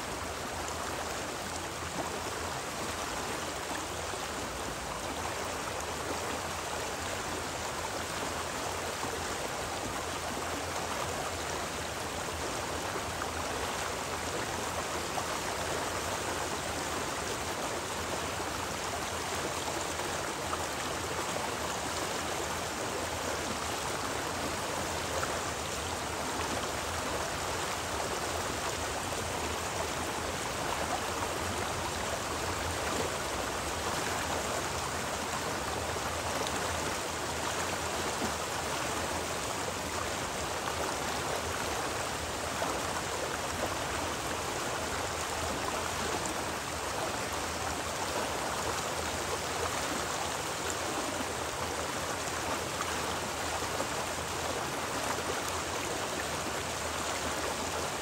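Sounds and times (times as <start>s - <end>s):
stream flowing water: 0.0s - 58.0s.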